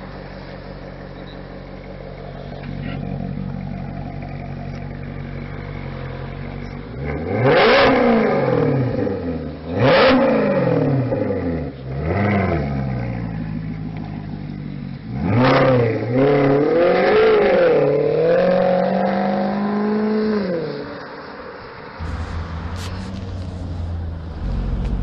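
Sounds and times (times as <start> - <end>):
car engine revving: 2.0 - 20.4, 22.0 - 25.0.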